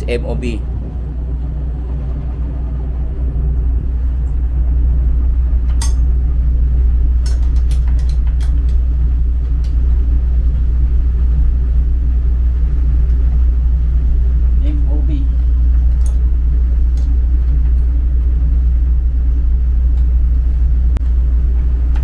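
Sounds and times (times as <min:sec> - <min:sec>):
low rumble of ship engines: 0:00.0 - 0:22.0.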